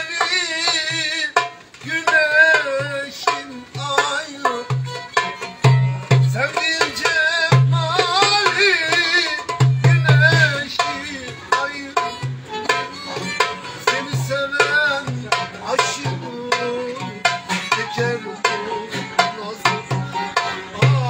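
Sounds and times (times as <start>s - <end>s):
hand drums rhythm: 0.0s - 21.0s
violin melody: 3.1s - 21.0s.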